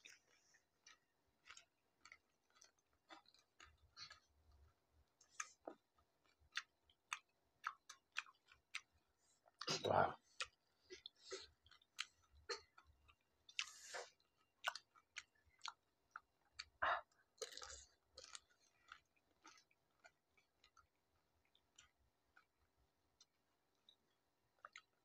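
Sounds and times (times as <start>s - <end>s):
crunching and chewing of crisp food: 0.0s - 25.0s.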